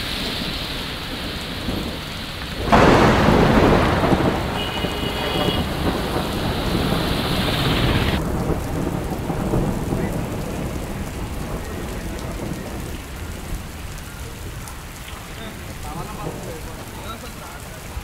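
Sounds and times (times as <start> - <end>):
heavy rain on a wet road: 0.0 - 18.0.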